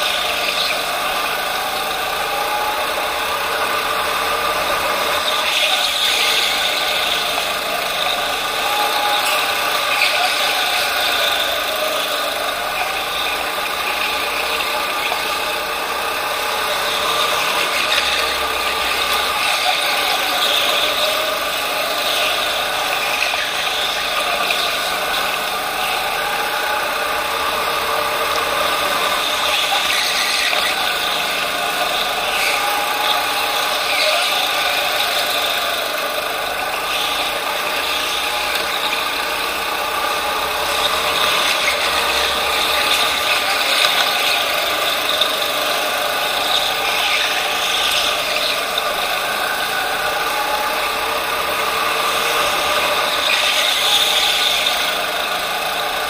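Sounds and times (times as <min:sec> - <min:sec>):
go-kart motor whine: 0:00.0 - 0:56.0
mechanical rattle from kart: 0:00.0 - 0:56.0.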